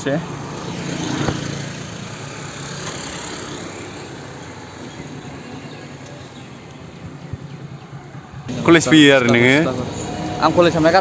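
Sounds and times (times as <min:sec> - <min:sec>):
street noise: 0:00.0 - 0:11.0
motor scooter passing: 0:00.1 - 0:11.0.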